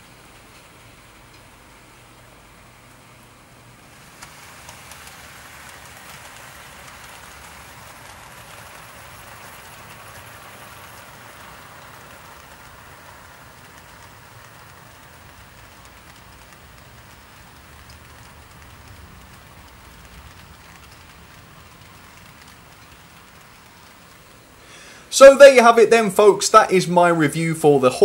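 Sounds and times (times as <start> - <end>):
model train motor whirring: 0.0 - 25.7
faint ticking: 3.8 - 26.7.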